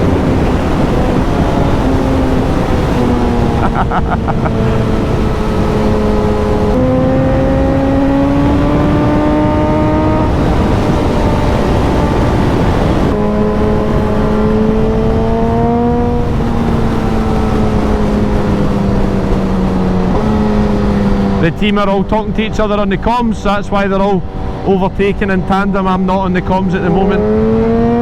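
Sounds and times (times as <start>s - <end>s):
heavy wind rush: 0.0s - 28.0s
motorcycle engine accelerating: 0.0s - 28.0s.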